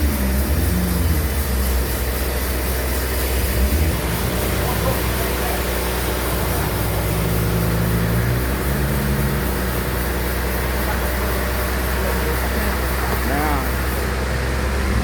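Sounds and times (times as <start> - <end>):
bandsaw machinery humming: 0.0 - 15.0.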